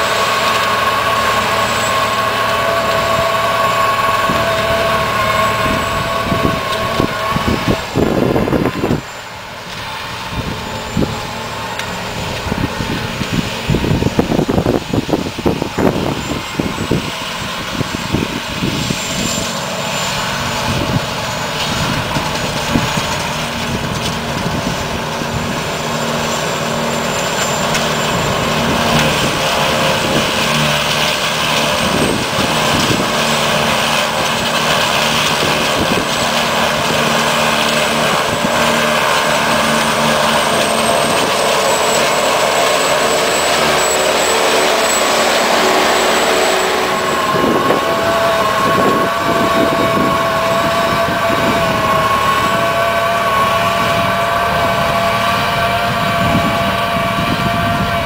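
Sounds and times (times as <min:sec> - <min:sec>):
forage harvester running: 0:00.0 - 0:58.0
wind buffeting microphone: 0:02.7 - 0:58.0.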